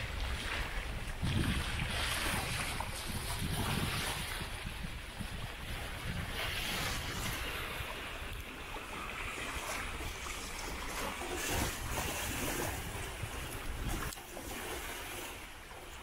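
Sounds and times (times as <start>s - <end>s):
wind buffeting microphone: 0.0s - 15.8s
water rushing past a hull: 0.0s - 16.0s.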